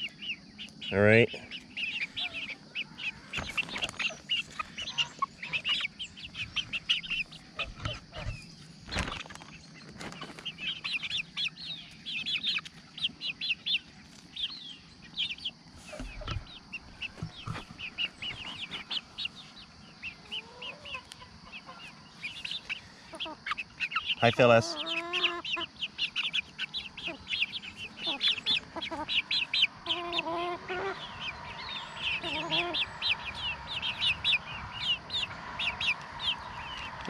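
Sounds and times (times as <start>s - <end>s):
chicks peeping and clucking: 0.0s - 37.0s.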